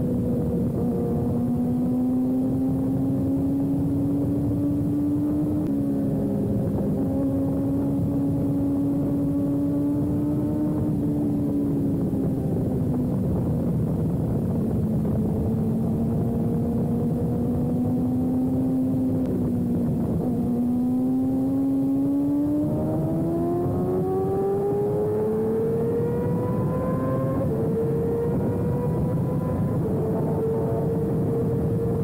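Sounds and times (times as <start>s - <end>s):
heavy wind rush: 0.0s - 32.0s.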